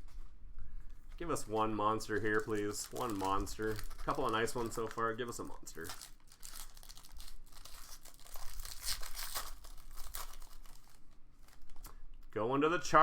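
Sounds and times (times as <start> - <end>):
plastic wrapping crinkling: 0.0 - 12.3.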